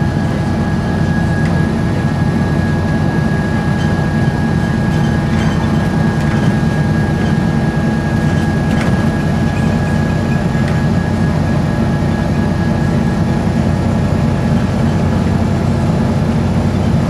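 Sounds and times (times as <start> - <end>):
bus engine droning with whine: 0.0 - 17.0.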